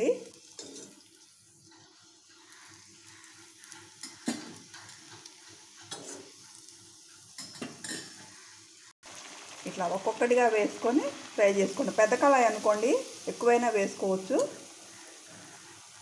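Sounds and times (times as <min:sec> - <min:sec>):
dough sizzling in hot oil: 0:00.0 - 0:16.0.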